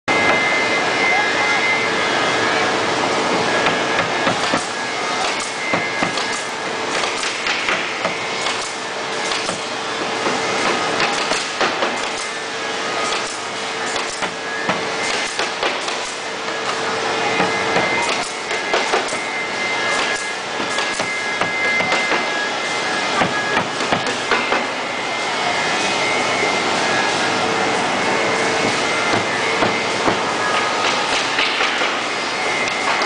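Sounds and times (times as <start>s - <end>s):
machinery hum: 0.1s - 33.0s.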